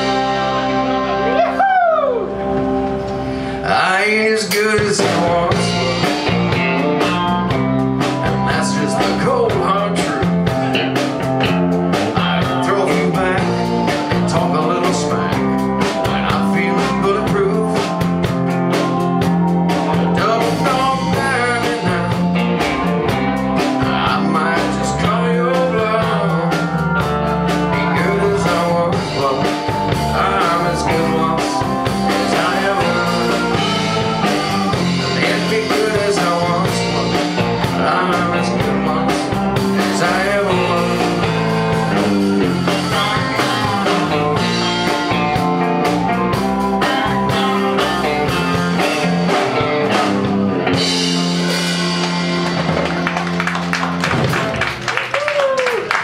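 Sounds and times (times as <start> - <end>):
country-rock band playing: 0.0 - 56.0
steady drum beat: 4.5 - 56.0.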